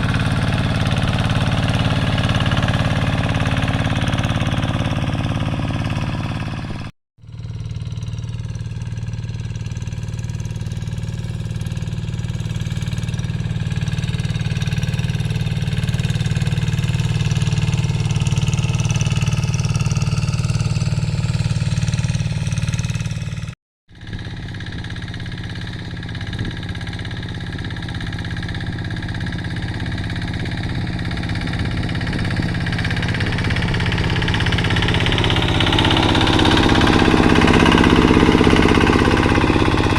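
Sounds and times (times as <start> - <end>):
hand tractor diesel engine: 0.0 - 6.9, 9.0 - 39.9.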